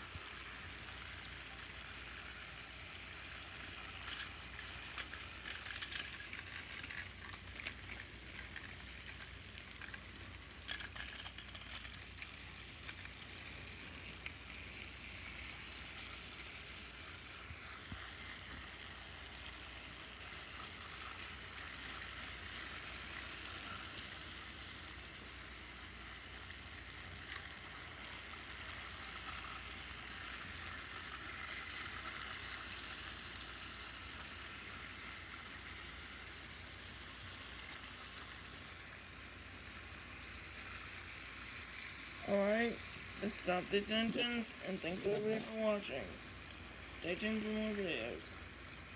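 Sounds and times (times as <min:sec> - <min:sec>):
toy trains whirring: 0:00.0 - 0:48.9.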